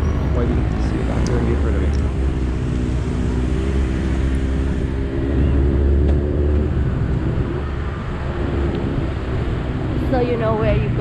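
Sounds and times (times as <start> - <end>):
heavy low rumble: 0.0 - 11.0.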